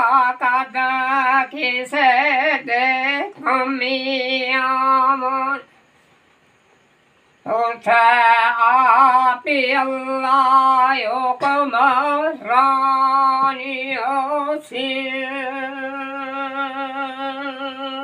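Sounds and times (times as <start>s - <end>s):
old man singing unaccompanied: 0.0s - 5.7s, 7.4s - 18.0s.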